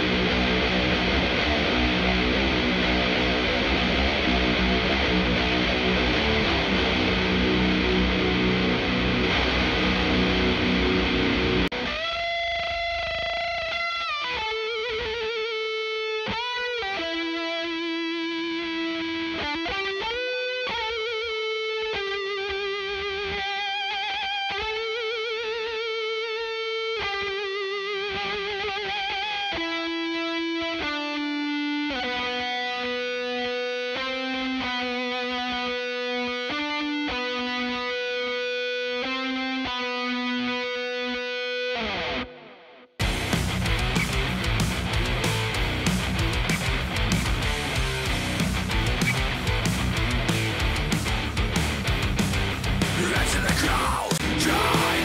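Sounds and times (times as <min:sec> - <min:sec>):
distorted rhythm guitar: 0:00.0 - 0:55.0
electric guitar lead solo: 0:00.0 - 0:55.0.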